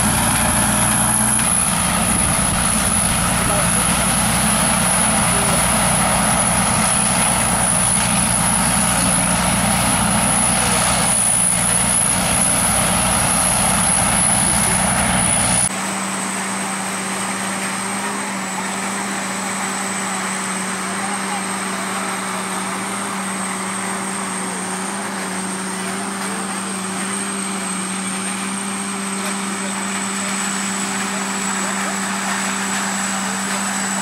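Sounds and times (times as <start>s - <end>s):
combine harvester running: 0.0s - 34.0s
high steady machine whine: 0.0s - 34.0s.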